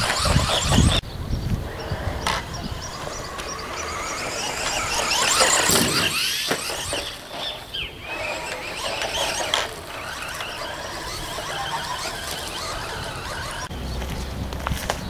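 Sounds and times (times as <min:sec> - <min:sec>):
toy car electric motor whining: 0:00.0 - 0:01.0, 0:01.6 - 0:13.7.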